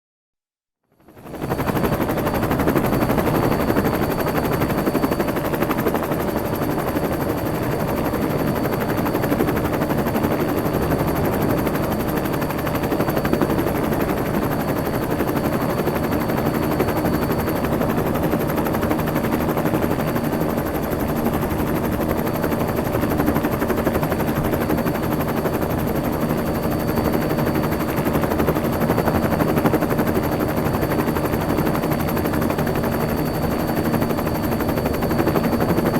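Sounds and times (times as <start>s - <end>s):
helicopter rotor blades chopping: 1.1s - 35.9s.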